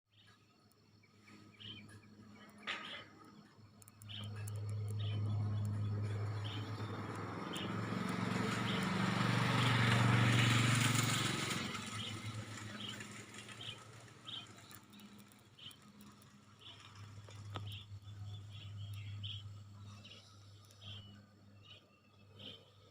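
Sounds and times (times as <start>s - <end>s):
bird chirping: 0.1s - 22.8s
vehicle engine passing by: 4.1s - 22.6s.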